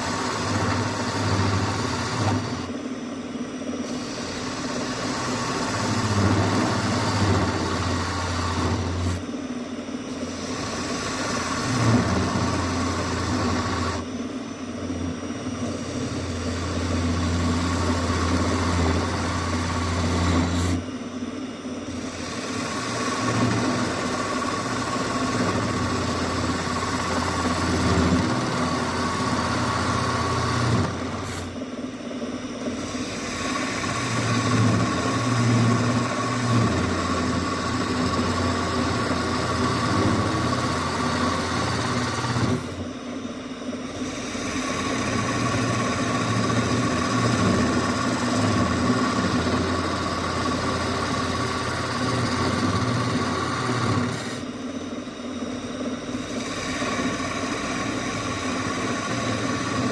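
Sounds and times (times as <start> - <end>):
turning tool hissing scrape: 0.0 - 2.8, 3.8 - 9.3, 10.1 - 14.1, 15.5 - 20.9, 21.8 - 31.6, 32.6 - 42.9, 43.8 - 54.6, 55.4 - 59.9
lathe motor humming: 0.0 - 31.8, 32.4 - 59.9.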